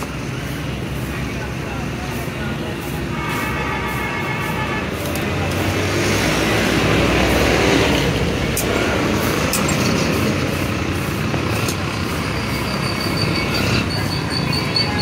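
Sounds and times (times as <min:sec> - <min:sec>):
street traffic passing: 0:00.0 - 0:15.0.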